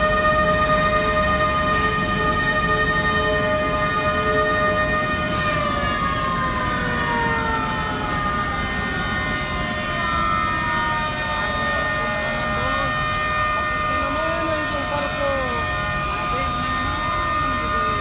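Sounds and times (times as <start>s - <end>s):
ship horns and sirens sounding: 0.0s - 18.0s.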